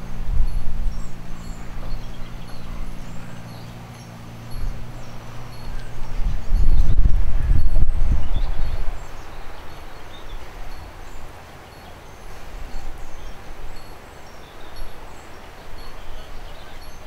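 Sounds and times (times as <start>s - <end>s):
low steady rumble: 0.0s - 16.7s.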